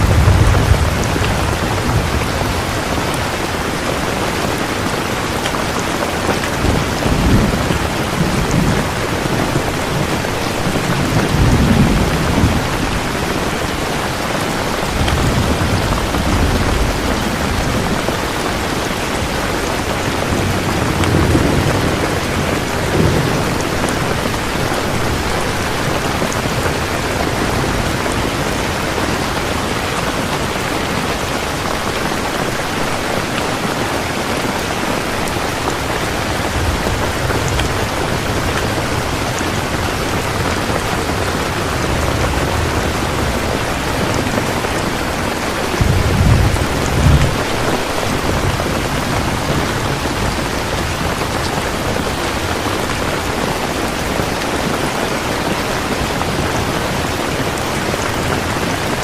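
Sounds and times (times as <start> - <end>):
distant thunder rumbles: 0.0 - 33.8, 34.4 - 54.8
rain falling on a surface: 0.0 - 59.0.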